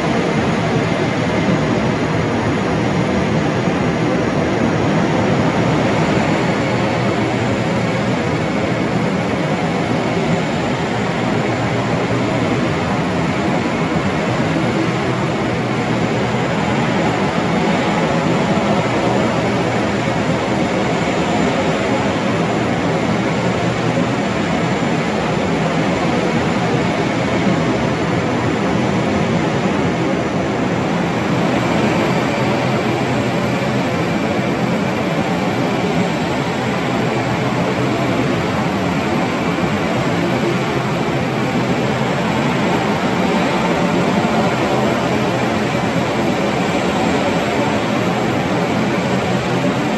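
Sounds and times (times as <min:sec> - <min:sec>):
jet engines running: 0:00.0 - 0:49.9.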